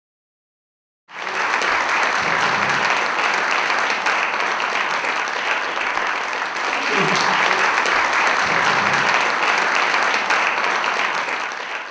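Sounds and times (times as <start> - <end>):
audience applauding: 1.1 - 11.9.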